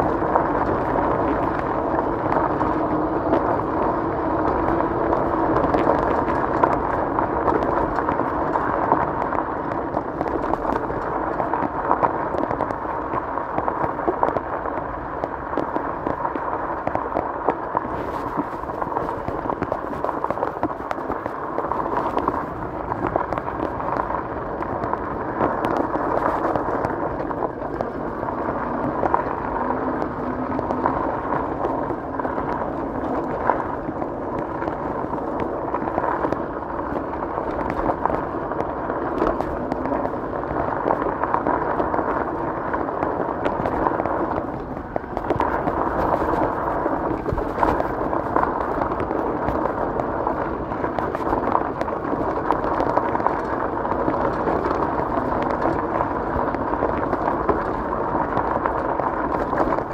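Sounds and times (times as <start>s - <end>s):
bicycle tyres rolling on gravel: 0.0s - 59.9s.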